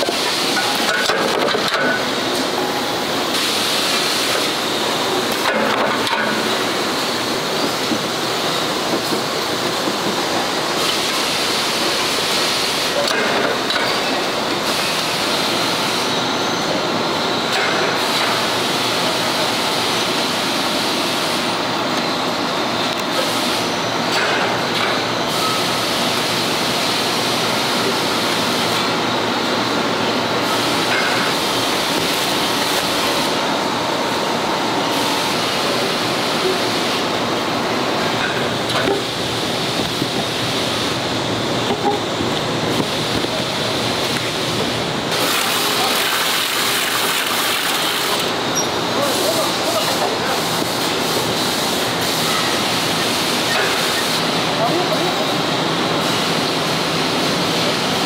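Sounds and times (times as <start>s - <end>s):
machinery hiss and rumble: 0.0s - 58.0s.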